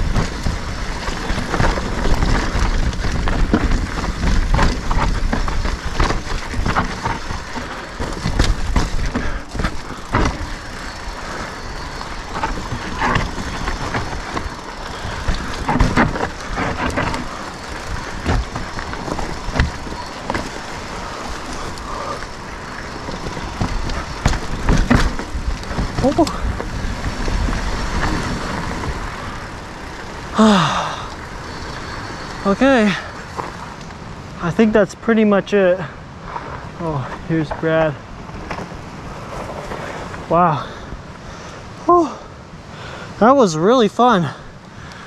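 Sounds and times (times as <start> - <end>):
bike rattling: 0.0 - 45.0
tyres rolling on dirt and stone: 0.0 - 45.0.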